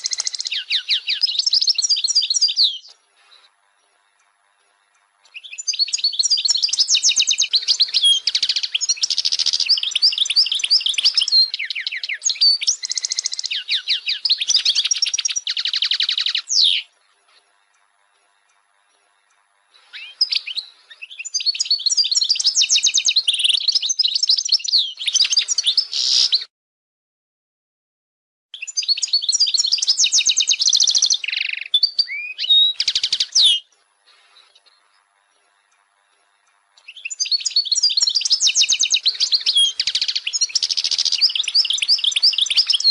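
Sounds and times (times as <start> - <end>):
bird twittering song: 0.0 - 26.5, 28.6 - 42.9.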